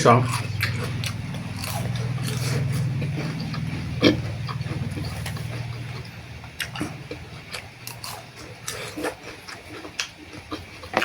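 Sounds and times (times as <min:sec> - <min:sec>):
low buzzing hum: 0:00.0 - 0:11.0
noodles slurped and chewed: 0:00.0 - 0:11.0.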